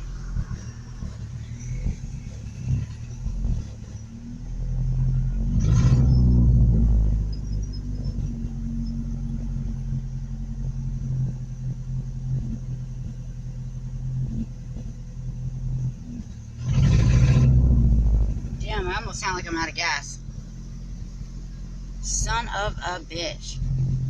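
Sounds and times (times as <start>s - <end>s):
truck engine idling unevenly: 0.0s - 5.6s, 6.2s - 24.0s.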